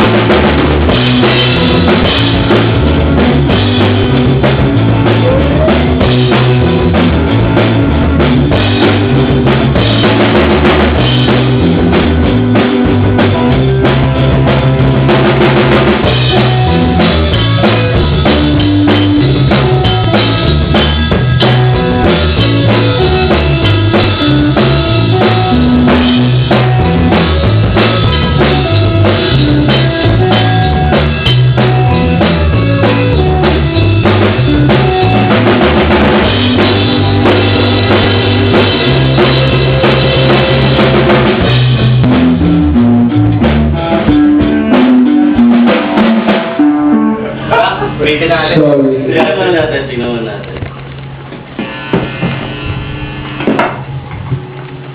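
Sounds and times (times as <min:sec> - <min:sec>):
drum kit beat: 0:00.0 - 0:50.3, 0:51.1 - 0:54.9
bass line: 0:00.0 - 0:54.9
loud music: 0:00.0 - 0:54.9.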